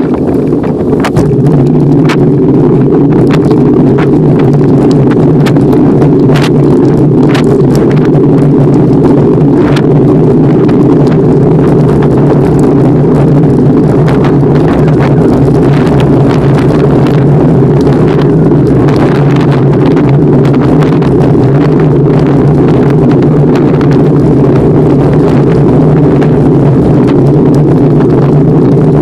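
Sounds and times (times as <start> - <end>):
bicycle riding noise: 0.0 - 29.0
small clicks and rattles: 0.0 - 29.0
wind rumble on microphone: 0.0 - 29.0.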